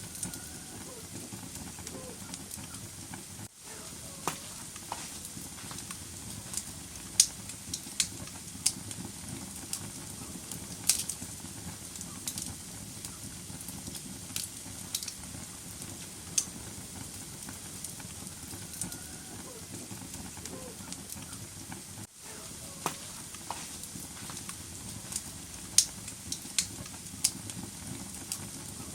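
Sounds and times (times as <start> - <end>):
fire flames burning: 0.0 - 28.9
logs popping and crackling: 0.0 - 28.9.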